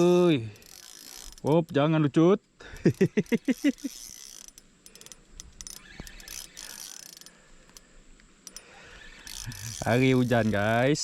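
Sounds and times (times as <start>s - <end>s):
fishing reel clicking: 0.0s - 1.7s, 2.8s - 11.0s.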